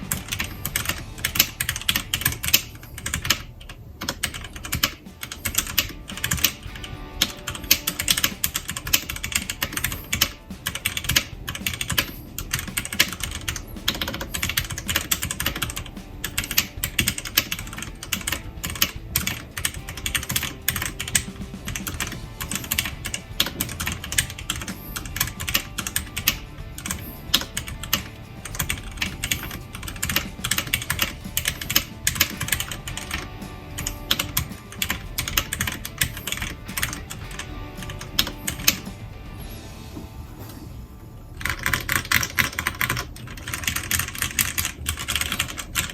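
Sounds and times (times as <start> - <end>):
mechanical keyboard typing: 0.0 - 38.9, 41.4 - 45.9.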